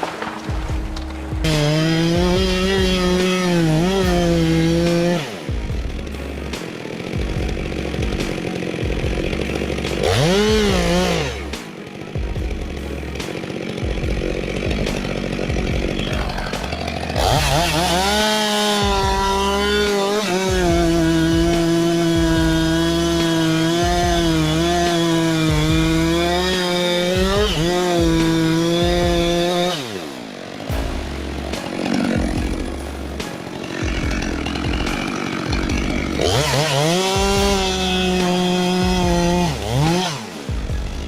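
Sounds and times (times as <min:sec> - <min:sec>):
chainsaw running at high revs: 0:00.0 - 0:41.0.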